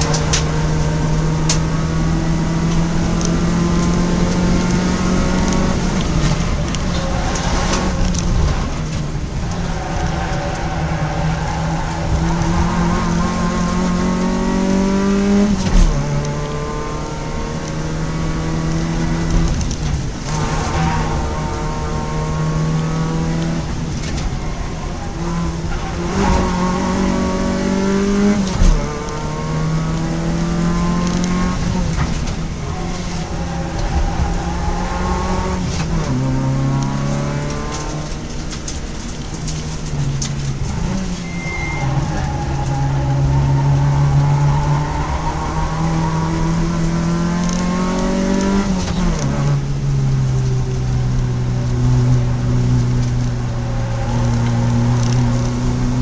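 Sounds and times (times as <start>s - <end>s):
car engine accelerating: 0.0s - 56.0s
road and wind noise: 0.0s - 56.0s.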